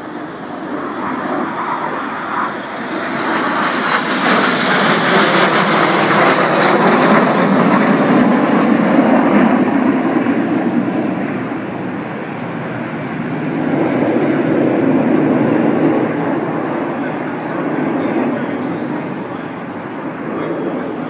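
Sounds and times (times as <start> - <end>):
jets flying past overhead: 0.0 - 21.0.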